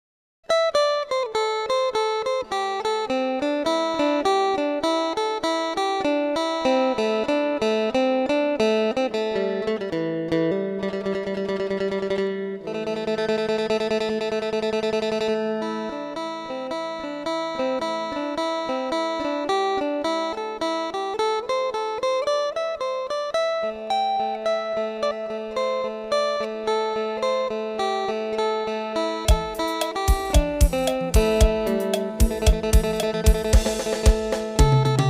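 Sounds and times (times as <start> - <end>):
plucked lute folk melody: 0.5 - 35.0.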